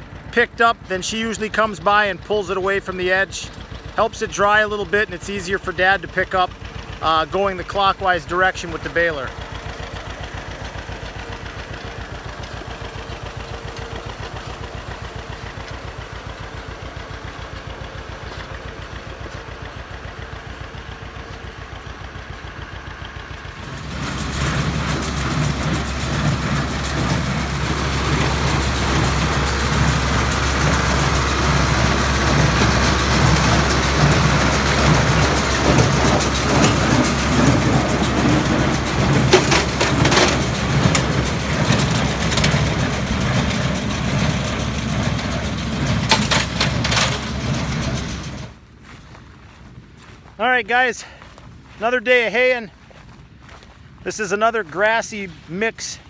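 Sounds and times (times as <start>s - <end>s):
hay baler churning: 0.0s - 56.0s
tractor engine running: 0.0s - 56.0s.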